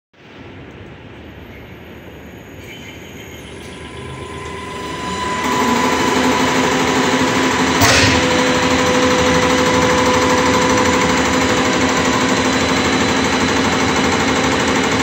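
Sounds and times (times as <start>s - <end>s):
test bench motor and pump whine: 1.8s - 15.0s.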